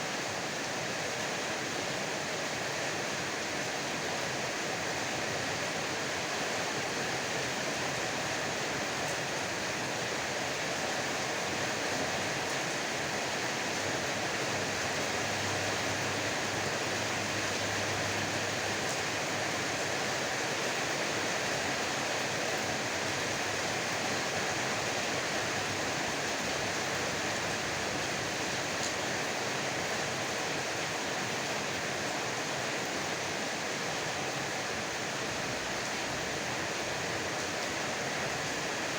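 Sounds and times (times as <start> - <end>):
heavy rain pouring: 0.1 - 38.9.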